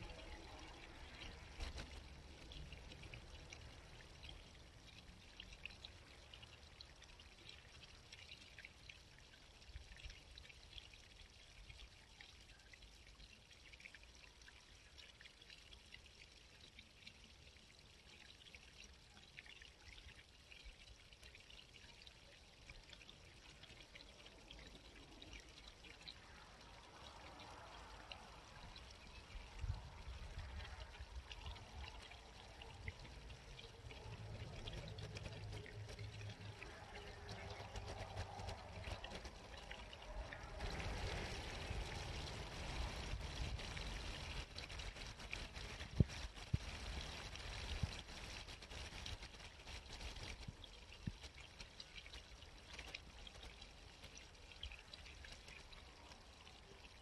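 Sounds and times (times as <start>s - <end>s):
stream trickling and babbling: 0.0s - 57.0s.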